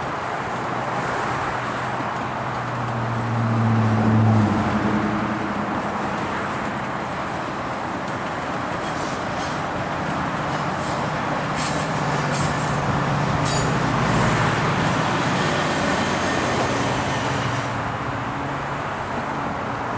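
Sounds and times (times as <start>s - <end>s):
diesel train rumbling: 0.0s - 19.9s.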